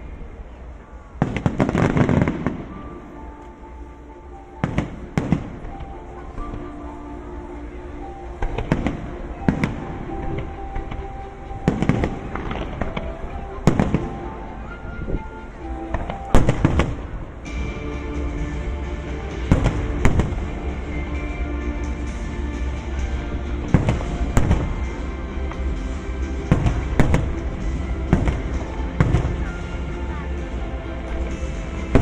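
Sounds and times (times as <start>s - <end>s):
music with held notes: 0.0s - 32.0s
fireworks bursting: 1.2s - 32.0s.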